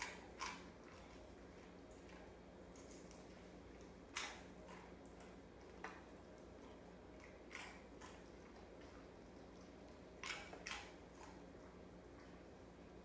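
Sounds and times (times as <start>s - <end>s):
faint wet splashes and snaps: 0.0s - 12.5s.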